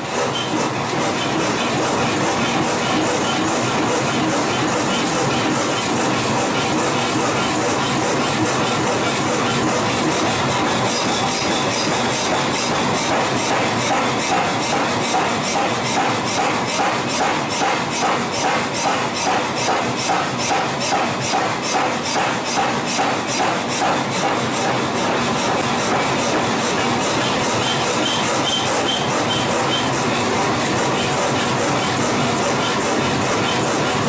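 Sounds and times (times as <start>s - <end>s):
forging machinery running: 0.0s - 34.0s.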